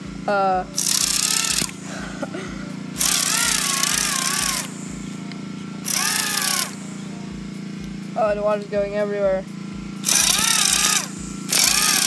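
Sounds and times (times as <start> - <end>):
drone motors whining: 0.0 - 12.0
pressure washer engine thumping: 0.0 - 12.0.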